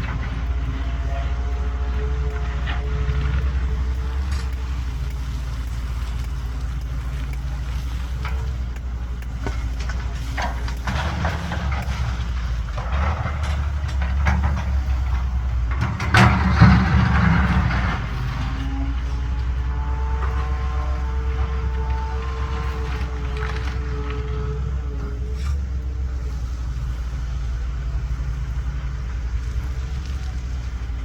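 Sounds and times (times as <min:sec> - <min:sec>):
metal clanks and knocks: 0:00.0 - 0:25.8
excavator diesel engine rumbling: 0:00.0 - 0:31.0
rattling clatter: 0:00.0 - 0:31.0.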